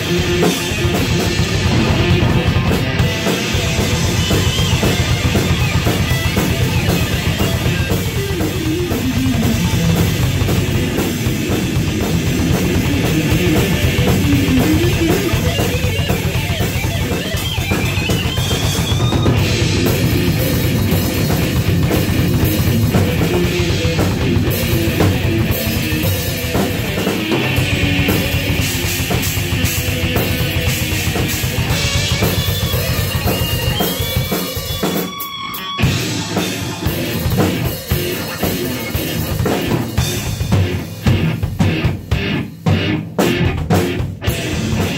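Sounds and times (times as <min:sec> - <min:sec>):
drum kit with cymbals: 0:00.0 - 0:44.9
electric guitar: 0:00.0 - 0:44.9.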